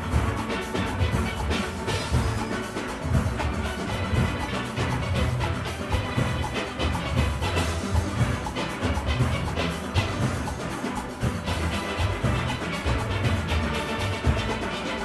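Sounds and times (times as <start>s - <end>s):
steel orchestra playing: 0.0s - 15.0s.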